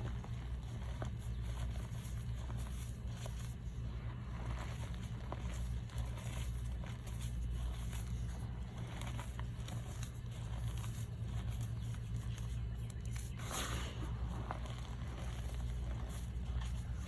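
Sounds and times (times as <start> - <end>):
chalk crunching and crumbling: 0.0 - 17.0
low hum: 0.0 - 17.0.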